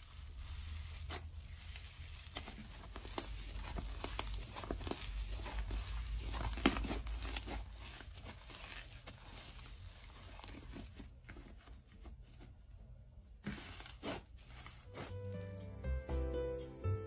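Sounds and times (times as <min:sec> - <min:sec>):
slime tearing and squishing: 0:00.0 - 0:12.5, 0:13.4 - 0:15.1.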